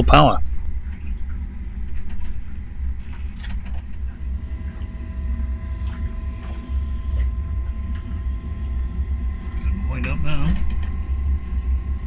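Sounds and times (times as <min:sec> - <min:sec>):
diesel air heater rumbling: 0:00.0 - 0:12.0
fan whine: 0:00.0 - 0:12.0.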